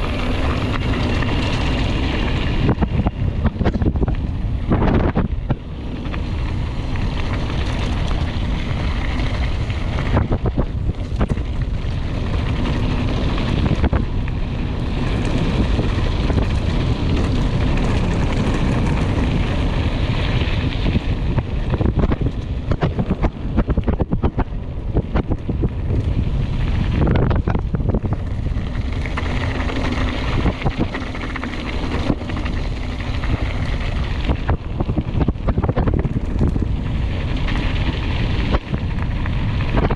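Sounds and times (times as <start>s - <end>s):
tyres rumbling on trail: 0.0s - 39.9s
wind buffeting microphone: 0.0s - 39.9s.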